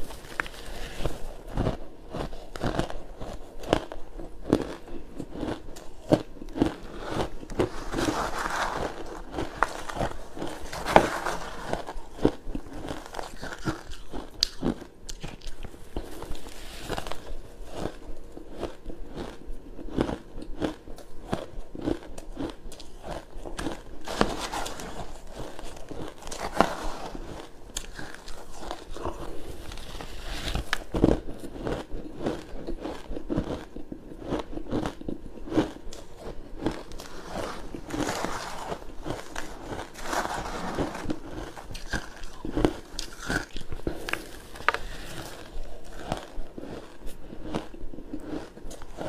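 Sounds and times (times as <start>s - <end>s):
chewing crunchy ice: 0.0s - 49.0s.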